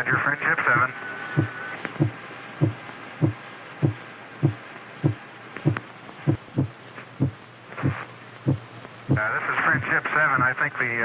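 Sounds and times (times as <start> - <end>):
faint hiss: 0.0 - 11.0
heartbeat thuds: 0.8 - 10.6.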